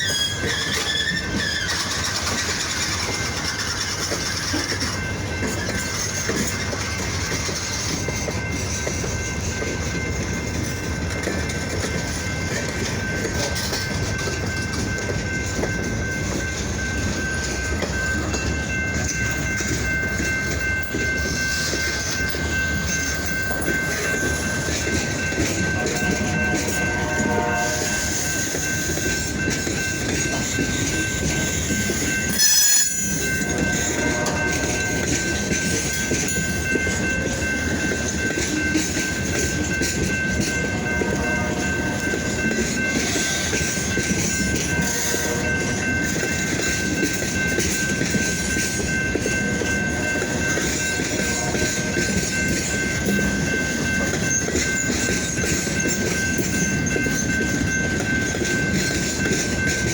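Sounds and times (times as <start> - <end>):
freight train cars rumbling: 0.0 - 59.9
wheels squealing on rail: 0.0 - 59.9.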